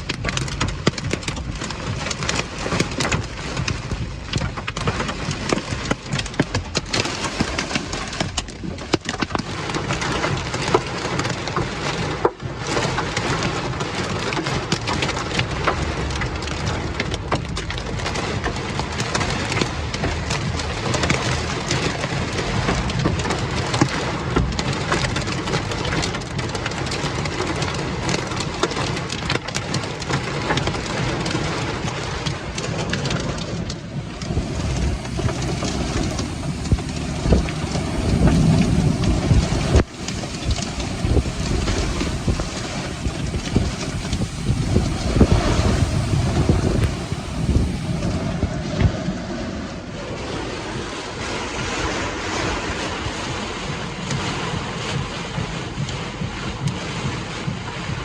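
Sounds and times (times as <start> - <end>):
heavy rain: 0.0 - 58.0
raindrops ticking close by: 0.0 - 58.0.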